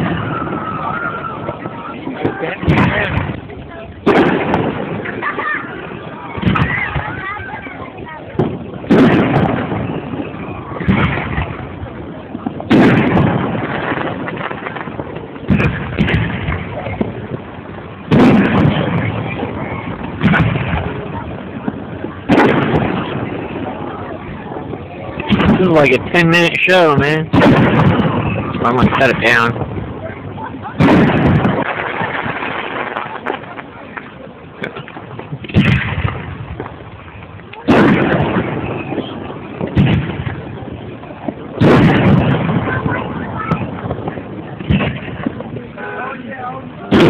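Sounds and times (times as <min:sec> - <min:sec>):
fireworks bursting: 0:00.0 - 0:47.0
fireworks crackling: 0:00.0 - 0:47.0.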